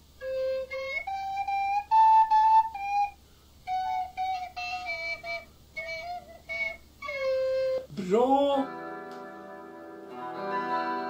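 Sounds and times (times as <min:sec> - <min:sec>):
recorder playing simple tune: 0:00.0 - 0:11.0.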